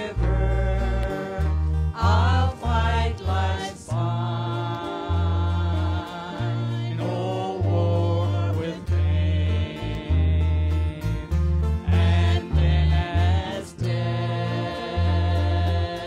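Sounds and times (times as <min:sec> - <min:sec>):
acoustic guitar: 0:00.0 - 0:16.0
bass line: 0:00.0 - 0:16.0
men and women singing a hymn: 0:00.0 - 0:16.0.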